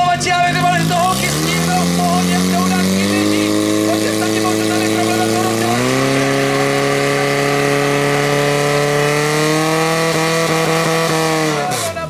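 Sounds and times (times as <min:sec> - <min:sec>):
pump engine running hard: 0:00.0 - 0:12.0.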